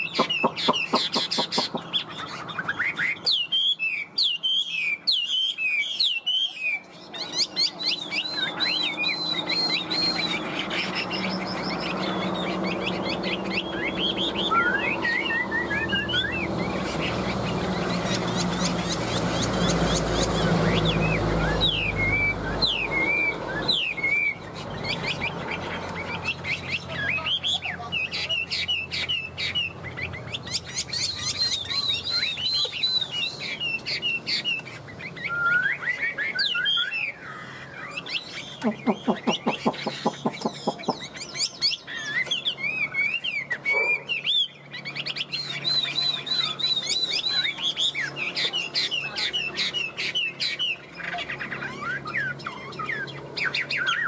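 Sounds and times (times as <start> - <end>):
bird singing whistled phrases: 0.0 - 17.0, 19.6 - 54.0.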